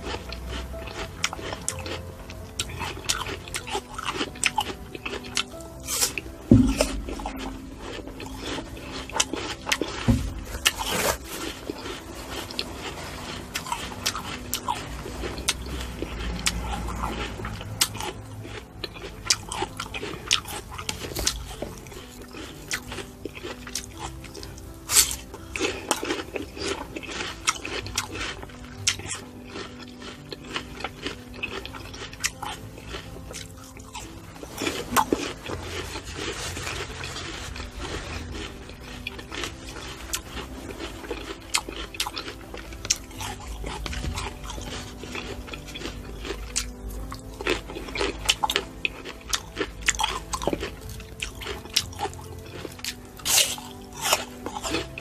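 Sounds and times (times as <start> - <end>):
fruit being bitten and chewed: 0.0 - 55.0
soft background music: 0.0 - 55.0.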